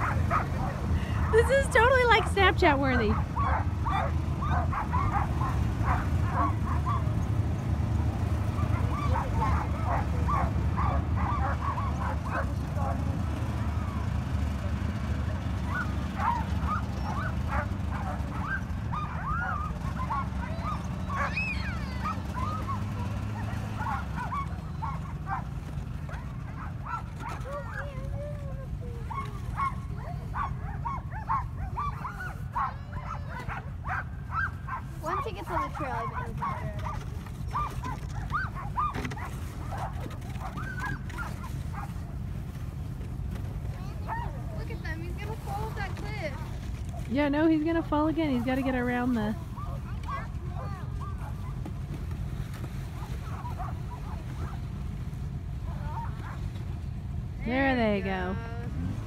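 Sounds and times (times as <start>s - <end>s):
sled dogs yipping and whining: 0.0s - 59.0s.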